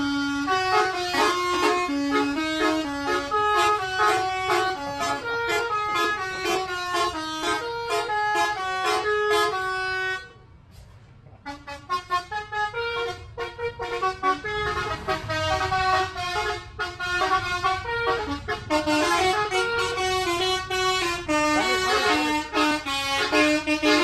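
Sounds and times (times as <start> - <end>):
air horn playing a tune: 0.0 - 10.4, 11.5 - 24.0
bus engine rumble: 0.0 - 24.0.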